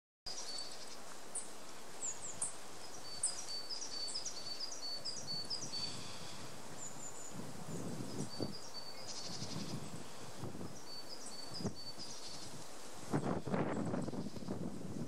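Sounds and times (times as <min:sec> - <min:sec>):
small birds chirping: 0:00.3 - 0:14.6
faint rustle: 0:00.3 - 0:15.0
outdoor hiss: 0:00.3 - 0:15.0.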